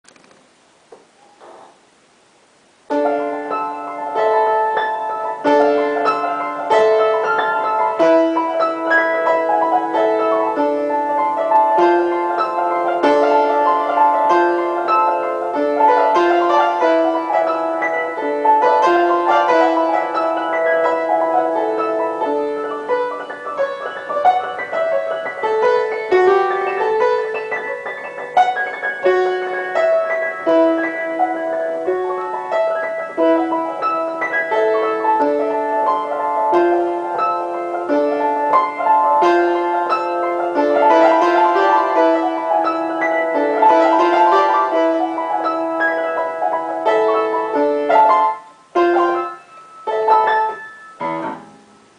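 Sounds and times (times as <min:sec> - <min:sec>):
solo piano lively melody: 0:00.1 - 0:51.9.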